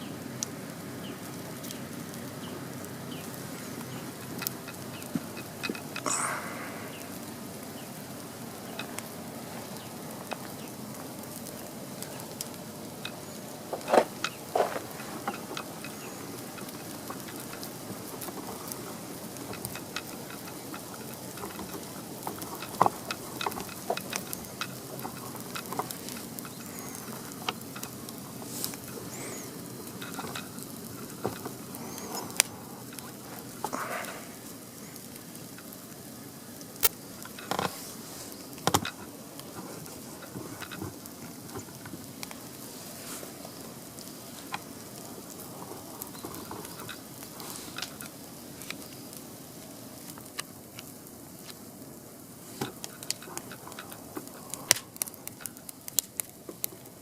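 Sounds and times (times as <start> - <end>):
campfire hissing: 0.0 - 57.0
fire crackling and popping: 0.0 - 57.0
loud fire snaps: 0.0 - 57.0.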